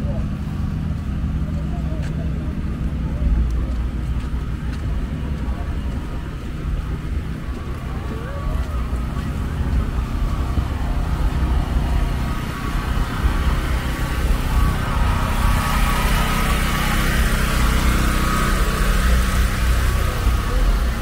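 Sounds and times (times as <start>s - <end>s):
wind rumbling on microphone: 0.3s - 21.0s.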